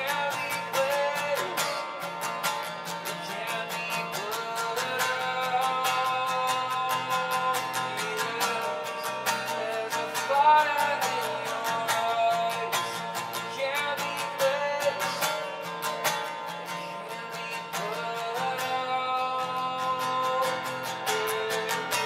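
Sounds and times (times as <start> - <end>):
acoustic guitar strumming: 0.0 - 22.0
person singing: 0.0 - 22.0.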